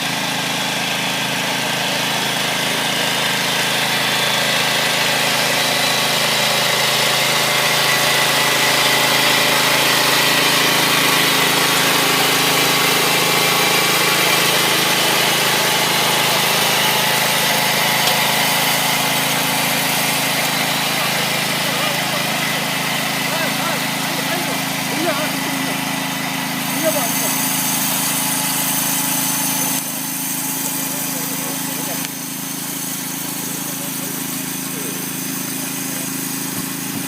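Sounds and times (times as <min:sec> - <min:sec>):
small cultivator engine running: 0:00.0 - 0:37.0.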